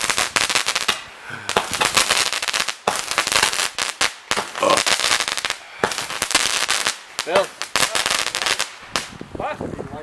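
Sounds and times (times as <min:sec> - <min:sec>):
fireworks crackling pops: 0:00.0 - 0:09.4.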